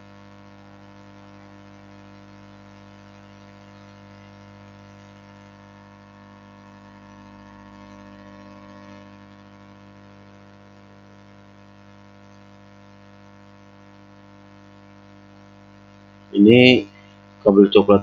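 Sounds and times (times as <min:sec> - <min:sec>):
electrical hum with faint buzz: 0:00.0 - 0:18.0.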